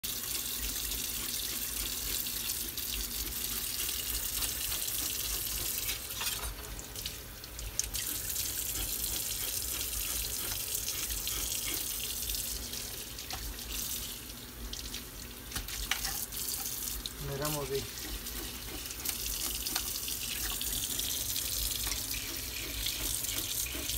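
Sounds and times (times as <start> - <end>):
faucet water splashing: 0.0 - 23.9.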